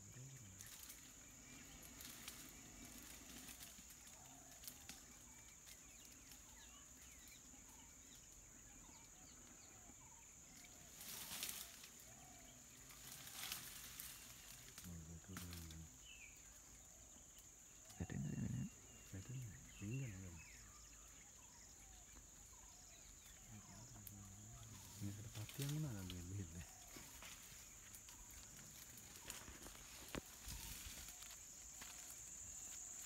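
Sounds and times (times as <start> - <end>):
faint bird chirps: 0.0 - 33.0.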